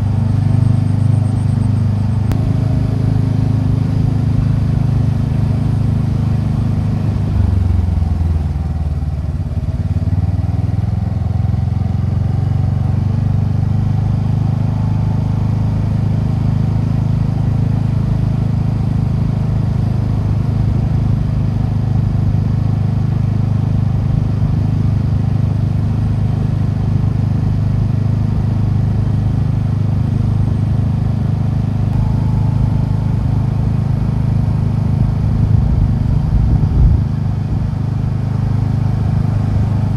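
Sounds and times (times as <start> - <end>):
scooter engine while riding: 0.0 - 39.9.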